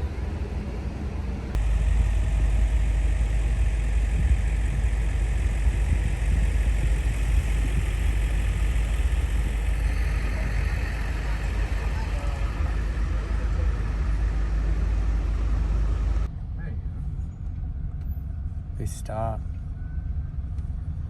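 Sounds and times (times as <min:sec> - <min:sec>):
vehicle engine idling: 0:01.4 - 0:21.0.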